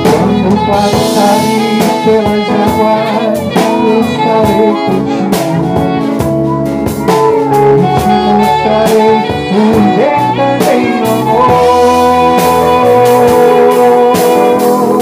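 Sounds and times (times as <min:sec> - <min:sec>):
drums and accompaniment: 0:00.0 - 0:15.0
sliding lead melody: 0:00.0 - 0:15.0.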